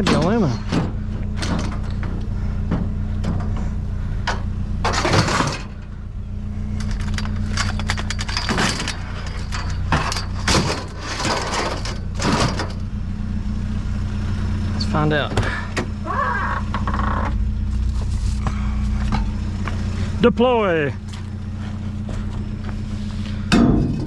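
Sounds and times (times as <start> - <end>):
clatter and rustling: 0.0 - 12.9, 15.4 - 20.2, 21.0 - 24.0
truck engine idling: 0.0 - 24.0.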